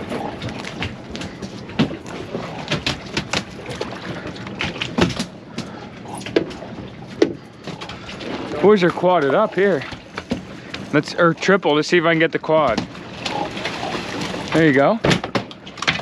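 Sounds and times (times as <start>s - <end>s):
water washing: 0.0s - 16.0s
wind: 0.0s - 16.0s.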